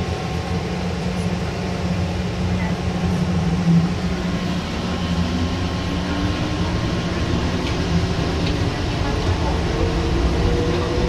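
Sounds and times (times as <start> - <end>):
train rumbling in a tunnel: 0.0 - 11.0.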